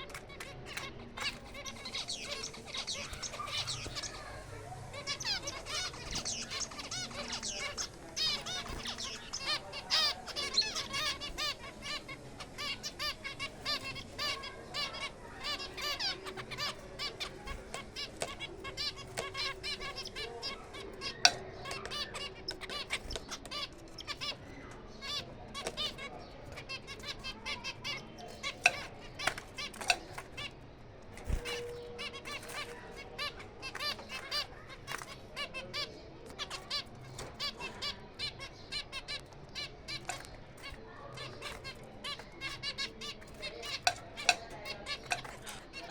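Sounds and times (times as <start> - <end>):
finches chirping and twittering: 0.0 - 45.9.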